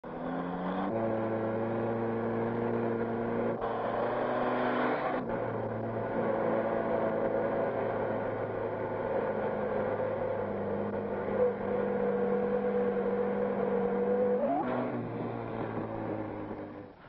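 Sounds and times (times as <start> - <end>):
jeep engine running: 0.0 - 17.0.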